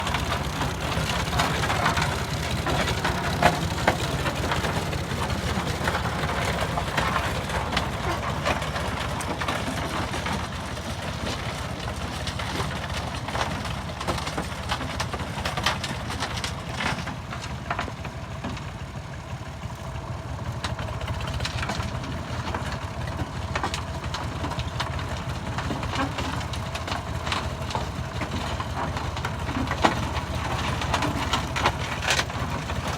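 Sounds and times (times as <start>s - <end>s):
road roller diesel engine: 0.0s - 32.9s
knocks and clatter: 0.1s - 18.6s, 20.6s - 32.9s.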